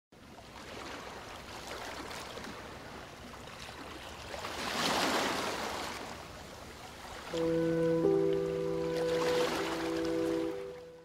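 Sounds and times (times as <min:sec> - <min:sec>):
sea water sloshing and lapping: 0:00.2 - 0:11.0.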